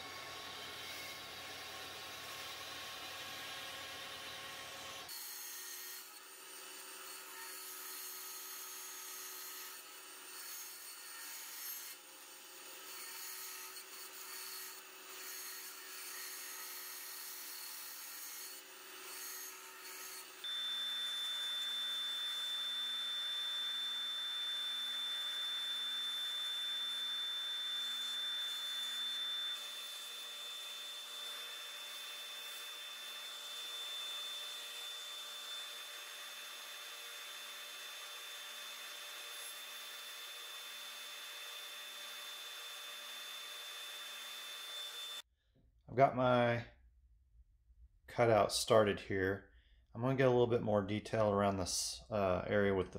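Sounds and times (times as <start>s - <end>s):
band saw cutting wood: 0.0s - 45.2s.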